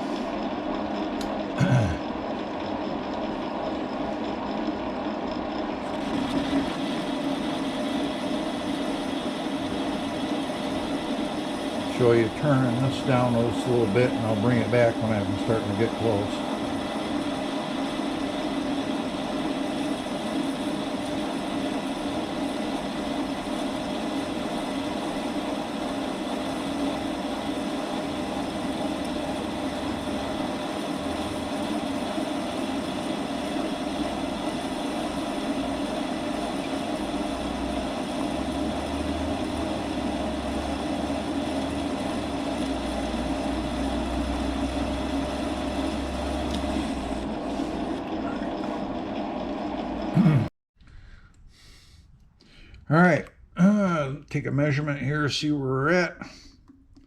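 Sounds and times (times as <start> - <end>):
metal lathe cutting: 0.0 - 50.3.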